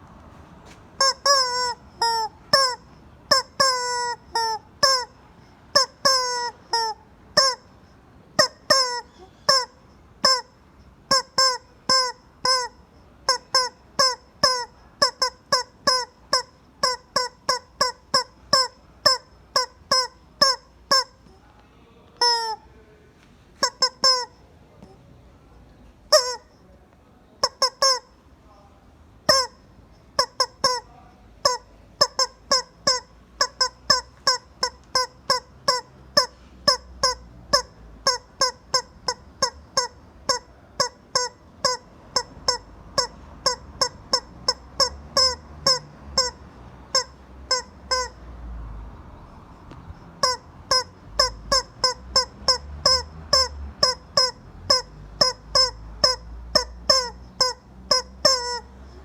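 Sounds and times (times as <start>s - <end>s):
rubber chicken toy squawking: 1.0s - 21.4s, 22.2s - 22.7s, 23.6s - 25.0s, 26.1s - 26.7s, 27.4s - 28.2s, 29.2s - 48.3s, 49.2s - 59.0s.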